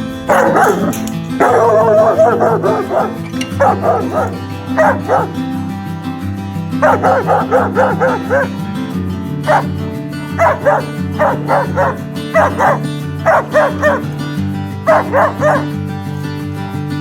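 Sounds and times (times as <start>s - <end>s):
background music low notes: 0.0s - 17.0s
dog barking: 0.1s - 5.7s, 6.7s - 15.9s.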